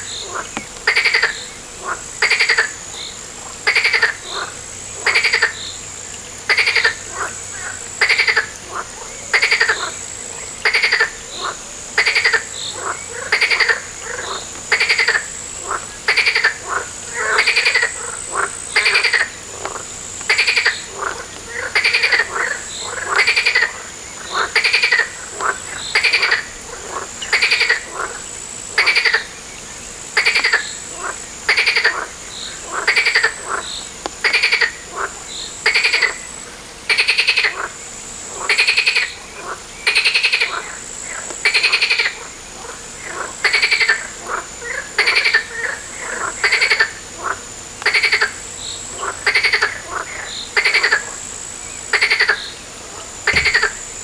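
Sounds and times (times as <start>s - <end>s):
frogs croaking: 0.0s - 54.0s.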